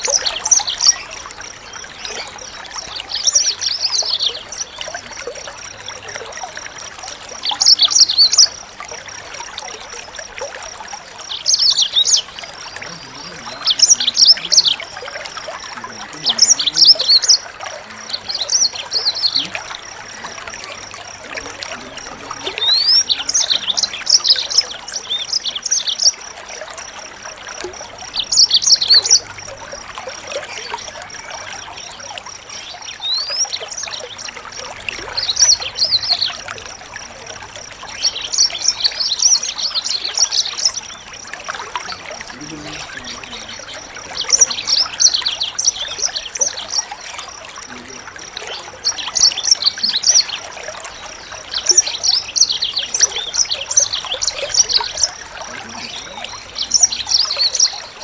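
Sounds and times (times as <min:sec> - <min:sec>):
songbirds twittering: 0:00.0 - 0:58.0.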